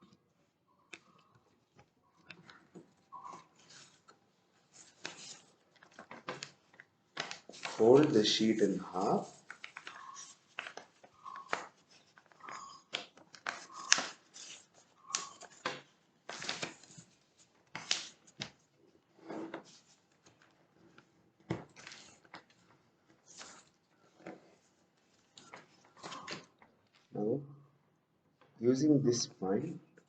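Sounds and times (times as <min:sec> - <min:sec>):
paper folding and rustling: 0:00.9 - 0:27.1.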